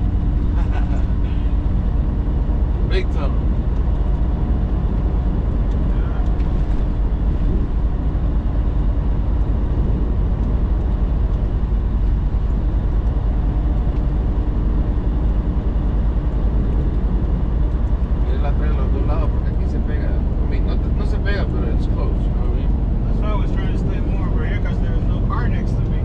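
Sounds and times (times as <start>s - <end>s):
diesel truck engine rumble: 0.0s - 26.0s.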